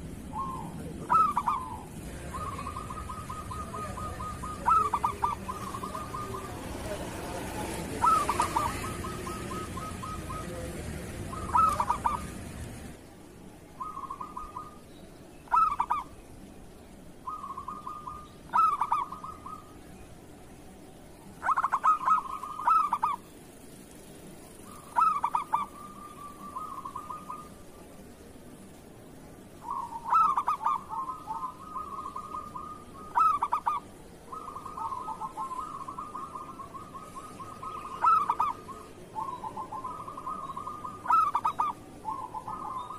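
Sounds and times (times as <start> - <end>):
dove cooing: 0.0 - 13.0, 13.8 - 14.8, 15.4 - 16.2, 17.2 - 20.0, 21.0 - 23.5, 24.4 - 28.2, 29.4 - 42.9
background hiss: 0.0 - 42.9.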